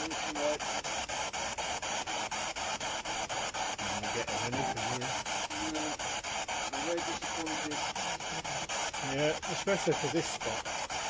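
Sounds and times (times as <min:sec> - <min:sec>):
radio scanning static pulses: 0:00.0 - 0:11.0.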